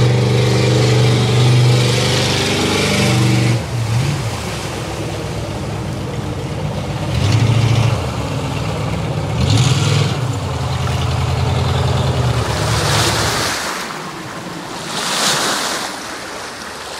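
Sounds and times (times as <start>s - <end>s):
jet boat engine running: 0.0s - 16.9s
rush of churned water: 0.0s - 16.9s.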